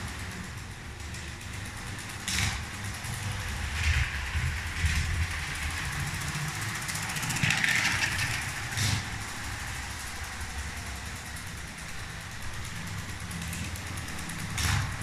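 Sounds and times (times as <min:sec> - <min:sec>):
toy electric train whirring: 0:00.0 - 0:15.0.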